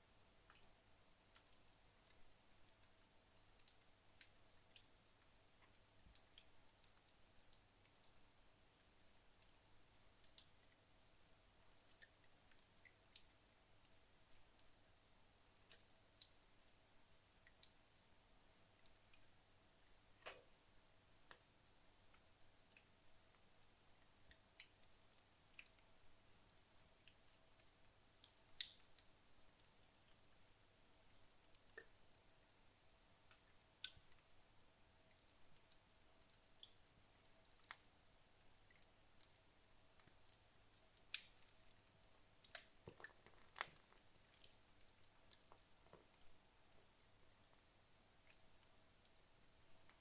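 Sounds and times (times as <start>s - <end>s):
logs crackling in a fireplace: 0.1s - 50.0s.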